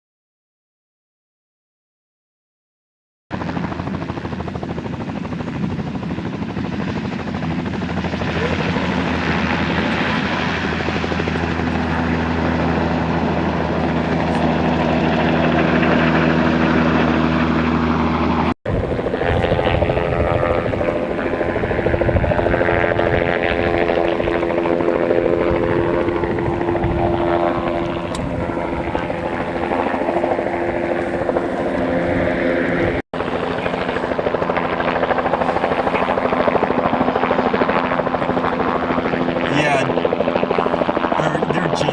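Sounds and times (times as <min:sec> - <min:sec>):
helicopter rotor and engine drone: 0:03.3 - 0:41.9.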